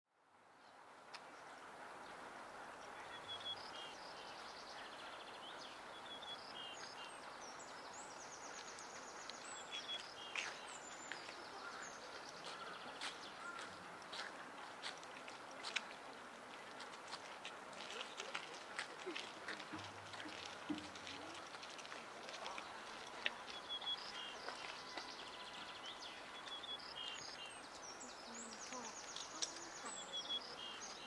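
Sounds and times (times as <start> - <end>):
outdoor background noise: 0.1 - 31.0
small birds chirping: 2.8 - 15.9, 17.8 - 31.0.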